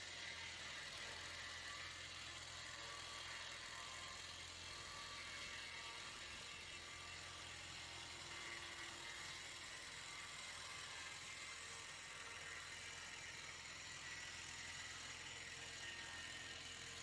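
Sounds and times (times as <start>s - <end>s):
portable sawmill running: 0.0s - 17.0s.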